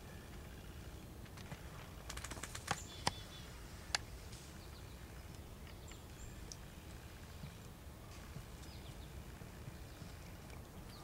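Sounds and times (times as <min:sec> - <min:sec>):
crackling in dry leaves: 0:00.4 - 0:10.6.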